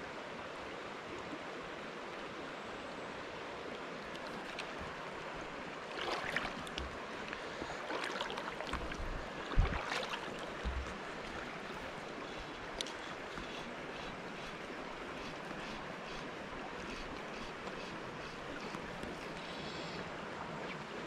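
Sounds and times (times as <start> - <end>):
river running over stones: 0.0 - 21.0.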